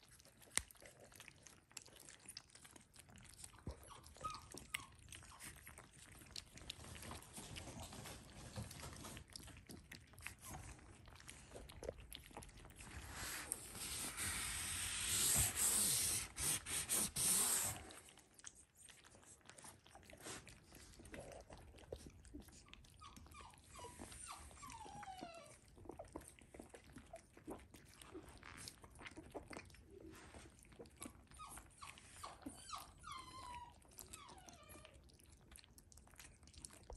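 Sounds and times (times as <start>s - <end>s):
puppies lapping and chewing: 0.0s - 36.9s
puppy whimpers: 3.2s - 18.0s, 19.0s - 35.4s.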